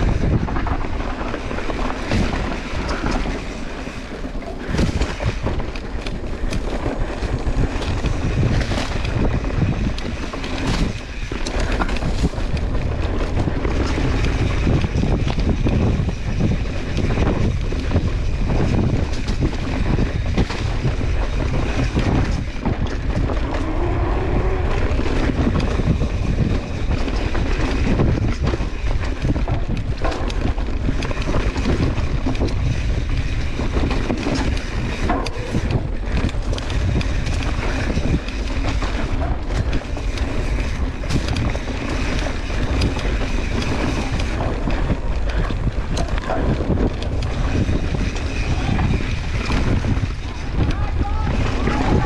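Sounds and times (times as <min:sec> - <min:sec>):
bike knocks and rattles: 0:00.0 - 0:52.0
bike tyre noise: 0:00.0 - 0:52.0
wind on microphone: 0:00.0 - 0:52.0.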